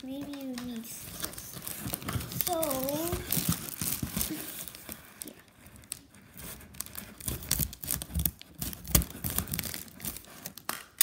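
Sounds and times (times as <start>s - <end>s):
plastic tearing: 0.0s - 11.0s
plastic mailer bag crinkling: 0.1s - 11.0s.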